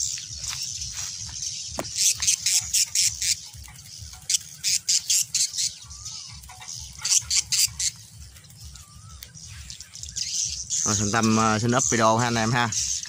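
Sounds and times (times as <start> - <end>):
birds squawking: 0.0 - 13.0.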